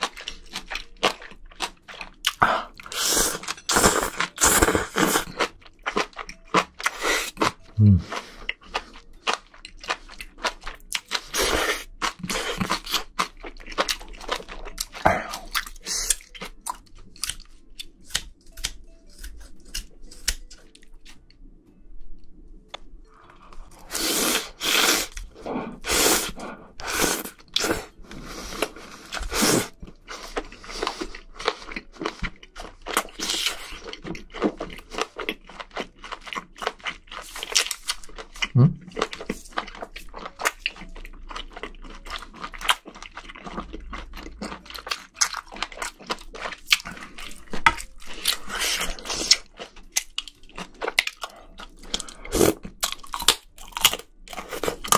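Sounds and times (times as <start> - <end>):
chewing and crunching food: 0.0 - 21.5, 23.3 - 54.9.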